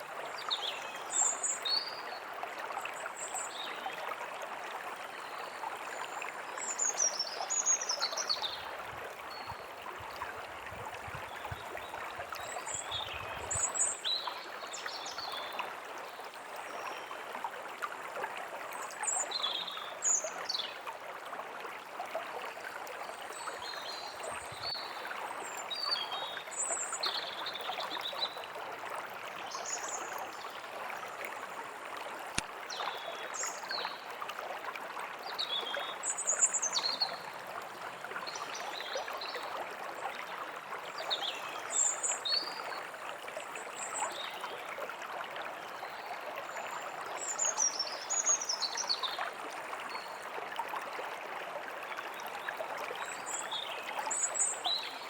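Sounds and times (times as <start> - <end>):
stream of running water: 0.0 - 55.0.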